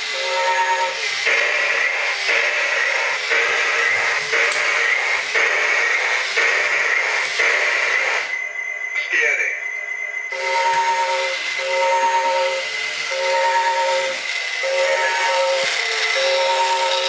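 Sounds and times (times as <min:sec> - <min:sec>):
buzzing electronic pulse: 0:00.0 - 0:09.0, 0:09.7 - 0:17.0.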